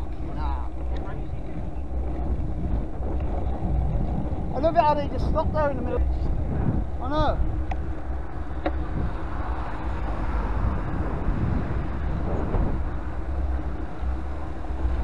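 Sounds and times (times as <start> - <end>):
road and traffic noise: 0.0 - 15.0
wind noise on microphone: 0.0 - 15.0.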